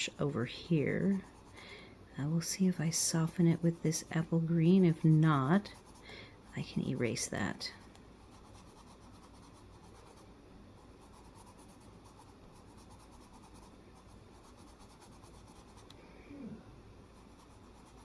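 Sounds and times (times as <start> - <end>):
pencil scratching on paper: 0.0 - 1.7, 2.3 - 10.2, 10.8 - 15.9, 17.1 - 18.0.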